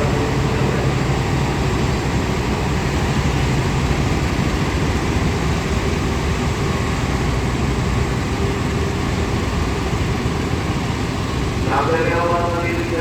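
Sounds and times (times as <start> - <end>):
train diesel engine rumble: 0.0 - 13.0.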